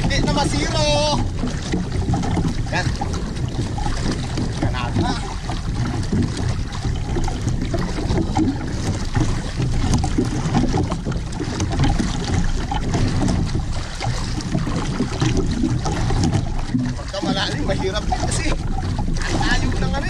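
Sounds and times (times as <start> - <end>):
waves splashing against hull: 0.0 - 20.0
wind buffeting microphone: 0.0 - 20.0.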